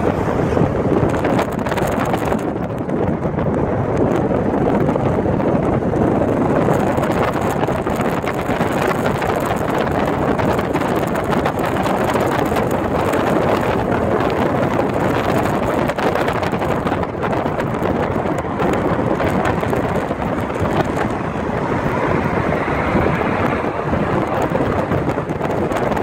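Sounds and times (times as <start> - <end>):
car wind and tyre noise: 0.0 - 26.0
wind buffeting microphone: 0.0 - 26.0.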